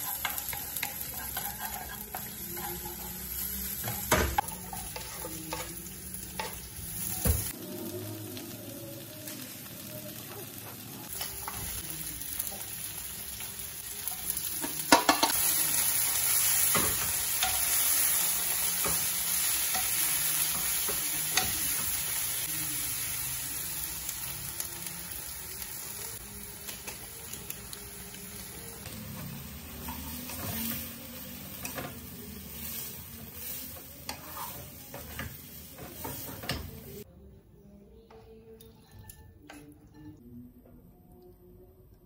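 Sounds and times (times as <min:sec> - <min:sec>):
food sizzling in a wok: 0:00.0 - 0:37.1.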